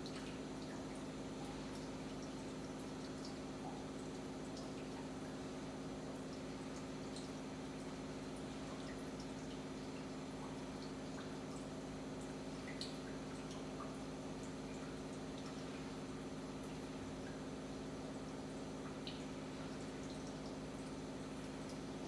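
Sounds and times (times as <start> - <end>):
water purifier humming: 0.0 - 22.0
water trickling and dripping: 0.0 - 22.0.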